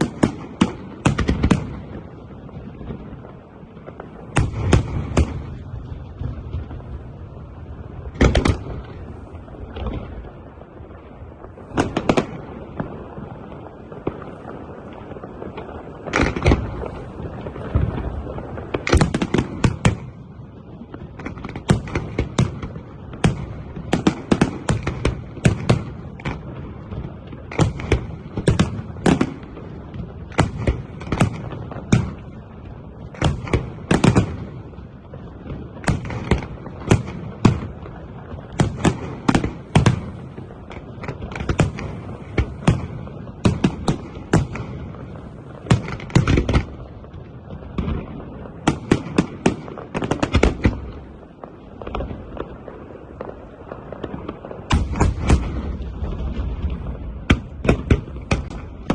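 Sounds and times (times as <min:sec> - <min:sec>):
fireworks bangs: 0:00.0 - 0:58.9.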